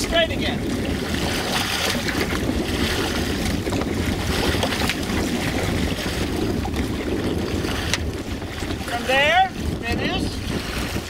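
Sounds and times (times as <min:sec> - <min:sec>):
paddles splashing water: 0:00.0 - 0:11.0
water rushing along boat hull: 0:00.0 - 0:11.0
wind buffeting microphone: 0:00.0 - 0:11.0.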